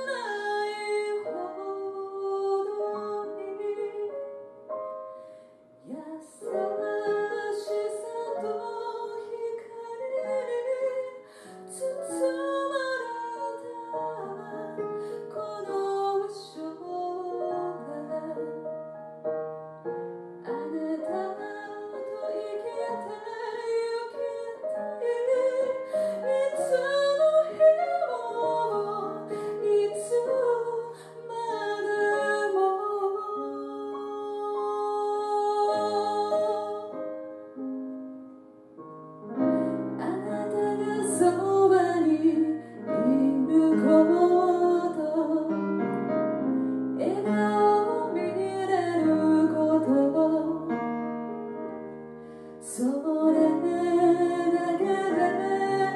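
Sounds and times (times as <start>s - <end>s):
woman singing: 0.0s - 4.4s, 5.8s - 18.7s, 20.4s - 37.2s, 39.4s - 50.8s, 52.6s - 55.9s
piano accompaniment: 0.0s - 55.9s.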